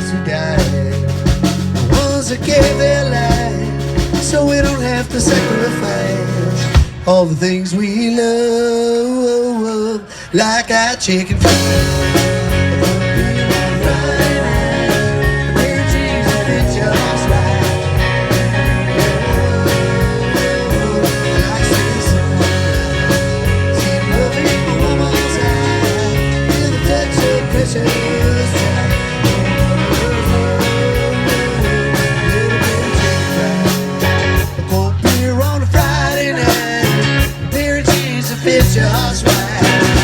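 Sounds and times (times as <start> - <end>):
steady drum beat: 0.0 - 7.1, 11.4 - 40.0
country-rock band playing: 0.0 - 7.9, 11.2 - 40.0.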